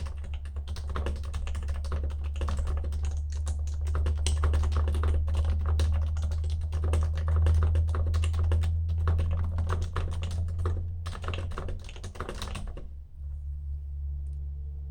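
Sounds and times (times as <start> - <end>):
fast typing on keyboard: 0.0 - 12.9
steady low hum: 0.0 - 14.9.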